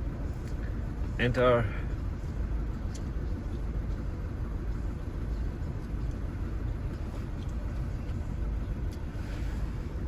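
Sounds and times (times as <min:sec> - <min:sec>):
diesel engine idling rough: 0:00.0 - 0:10.0.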